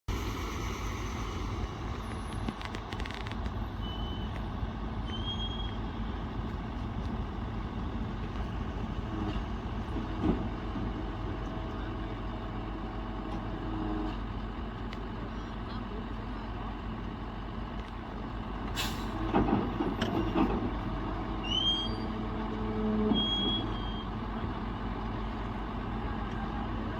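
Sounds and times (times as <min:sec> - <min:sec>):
bulldozer diesel engine running: 0:00.1 - 0:26.9.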